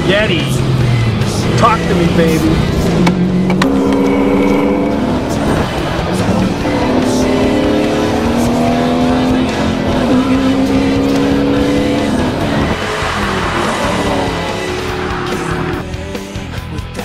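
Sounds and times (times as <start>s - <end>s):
car engine running: 0.0s - 16.6s
music playing: 0.0s - 17.0s.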